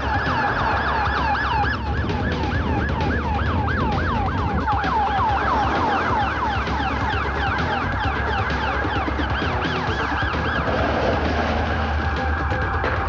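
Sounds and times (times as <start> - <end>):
police siren yelping: 0.0 - 13.0.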